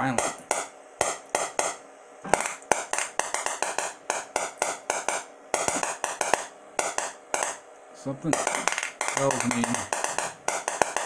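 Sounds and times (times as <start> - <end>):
electric sparks snapping: 0.0 - 7.6, 8.3 - 11.0.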